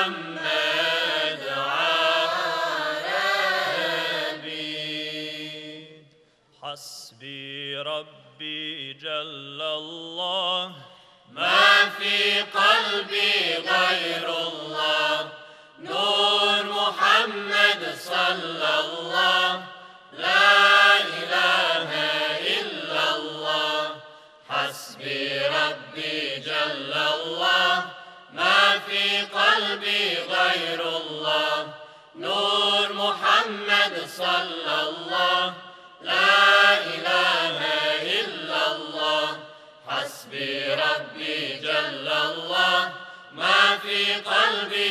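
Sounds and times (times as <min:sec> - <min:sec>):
male choir singing a cappella: 0:00.0 - 0:44.9.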